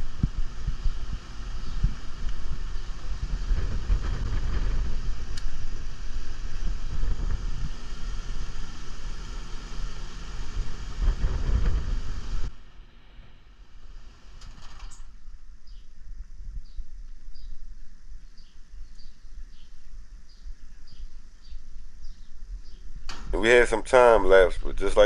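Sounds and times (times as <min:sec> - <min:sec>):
air conditioning unit running: 0:00.0 - 0:25.0
low wind rumble on microphone: 0:00.0 - 0:25.0.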